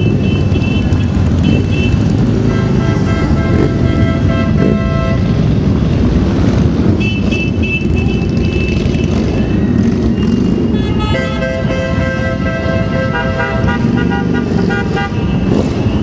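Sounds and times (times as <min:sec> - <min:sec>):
horns honking: 0:00.0 - 0:05.6, 0:06.8 - 0:16.0
motorcycle engines rumbling: 0:00.0 - 0:16.0.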